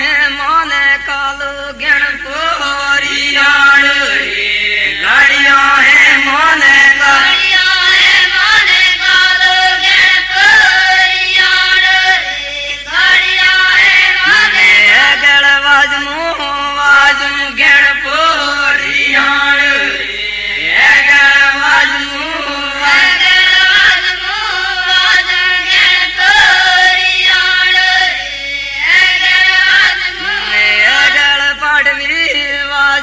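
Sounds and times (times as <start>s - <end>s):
women singing together: 0.0s - 33.0s.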